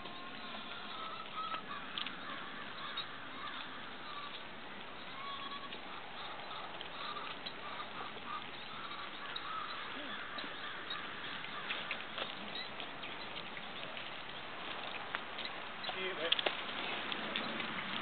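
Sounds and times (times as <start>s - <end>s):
faint bird calls: 0.0s - 16.3s
steady outdoor hiss: 0.0s - 18.0s.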